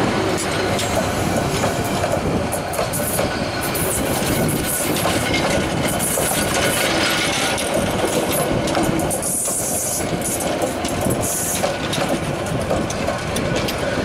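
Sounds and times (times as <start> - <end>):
clickety-clack of rail joints: 0.0 - 14.0
train wheels rumbling on rails: 0.0 - 14.0.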